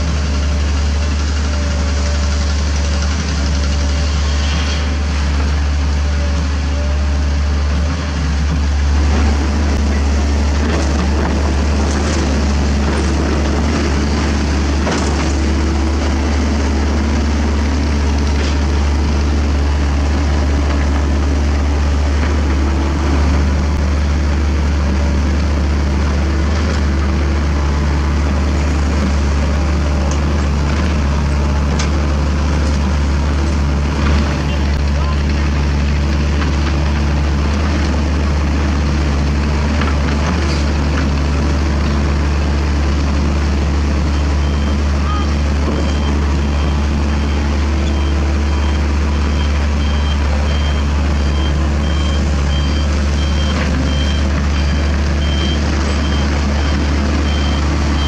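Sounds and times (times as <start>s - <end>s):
excavator diesel engines droning: 0.0s - 58.0s.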